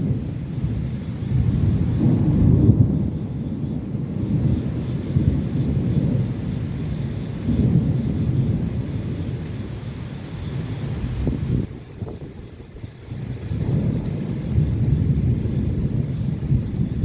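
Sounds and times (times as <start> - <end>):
rolling thunder: 0.0 - 17.0.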